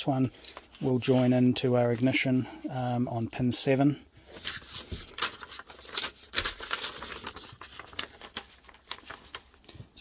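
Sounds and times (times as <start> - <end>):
paper rustling and crinkling: 0.1 - 2.5, 4.2 - 10.0.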